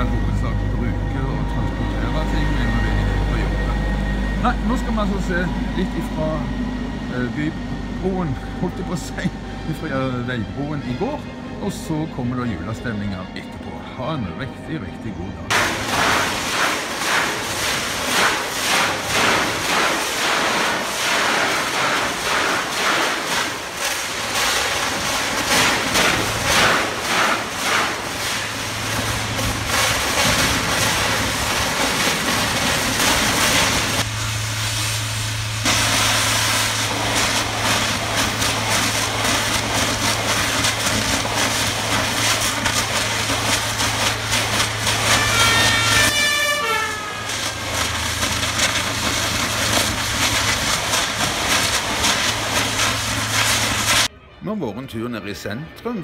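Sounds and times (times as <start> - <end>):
excavator engine running: 0.0 - 13.8, 14.4 - 54.1.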